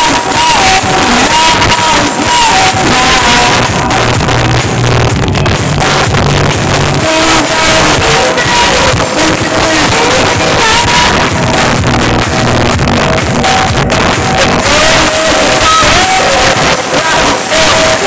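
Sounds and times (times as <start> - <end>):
loud bass-heavy music: 0.0 - 18.0.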